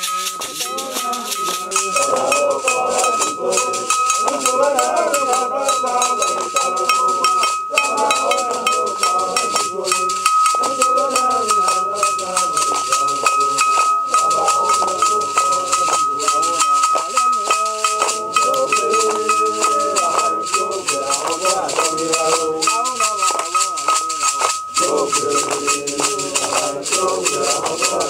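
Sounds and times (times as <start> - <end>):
bell ringing: 0.0 - 28.0
hand claps: 0.0 - 28.0
rattling percussion: 0.0 - 28.0
men chanting together: 0.3 - 28.0.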